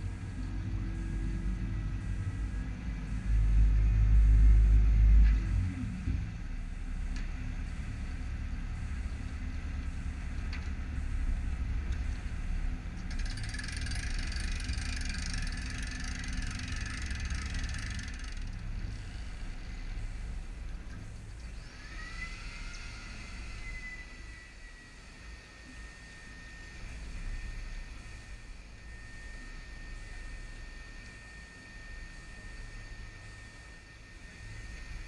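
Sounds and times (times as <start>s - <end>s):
air compressor whining: 4.8s - 35.0s.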